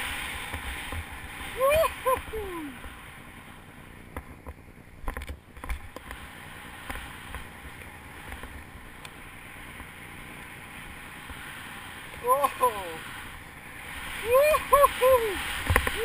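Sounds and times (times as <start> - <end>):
skis rushing through powder snow: 0.0 - 3.7, 6.2 - 16.0.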